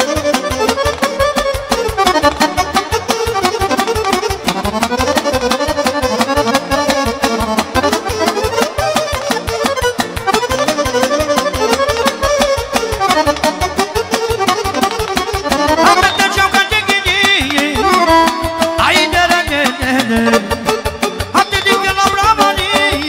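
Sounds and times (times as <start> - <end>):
fast instrumental dance music: 0.0 - 23.0.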